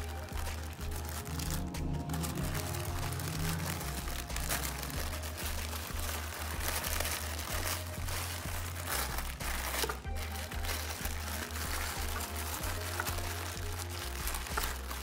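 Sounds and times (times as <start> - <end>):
music with low bass pattern: 0.0 - 15.0
paper crinkling and rustling: 0.0 - 15.0.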